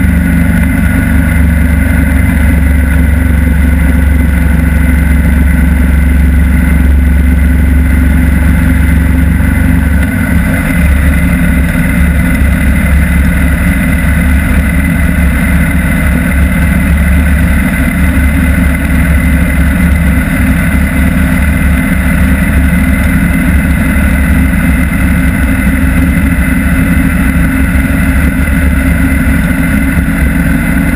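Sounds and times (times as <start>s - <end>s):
motorcycle engine drone: 0.0s - 30.9s
wind and road noise: 0.0s - 30.9s.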